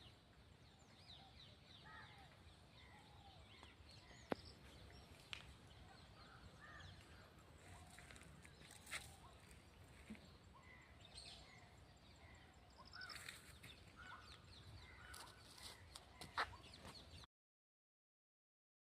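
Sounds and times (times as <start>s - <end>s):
birds chirping faintly: 0.0s - 17.3s.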